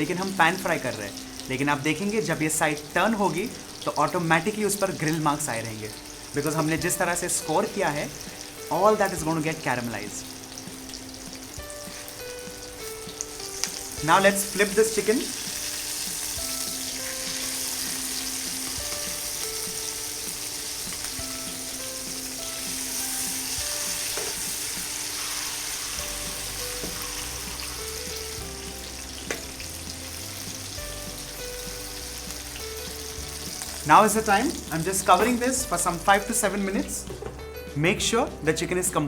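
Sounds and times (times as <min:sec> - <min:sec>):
chicken sizzling in a pan: 0:00.0 - 0:36.2.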